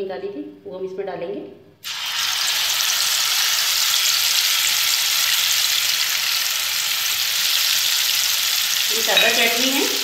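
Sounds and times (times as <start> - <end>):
paste sizzling in hot oil: 1.8 - 10.0.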